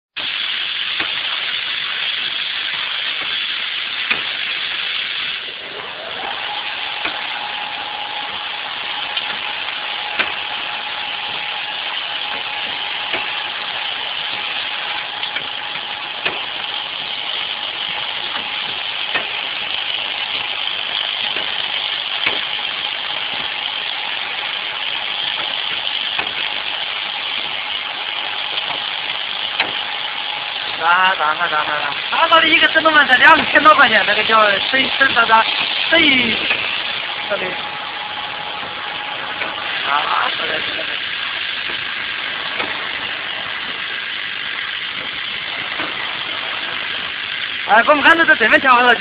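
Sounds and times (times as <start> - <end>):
machine hissing mechanical noise: 0.2 - 49.0
machine whine: 0.2 - 49.0.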